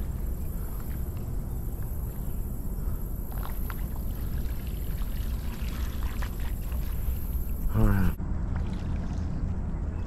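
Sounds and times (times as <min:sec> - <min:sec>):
rushing floodwater: 0:00.0 - 0:09.2
faint splashes: 0:00.0 - 0:09.6.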